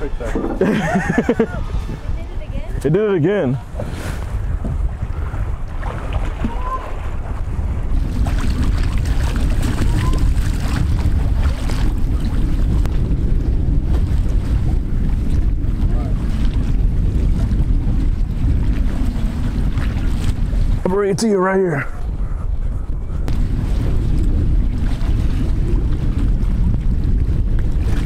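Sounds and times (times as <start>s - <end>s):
water washing against pilings: 0.0s - 28.0s
wind buffeting microphone: 0.0s - 28.0s.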